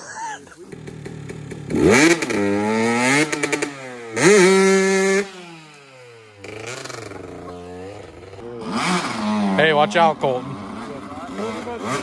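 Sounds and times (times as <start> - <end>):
dirt bike engine revving: 0.5 - 12.0.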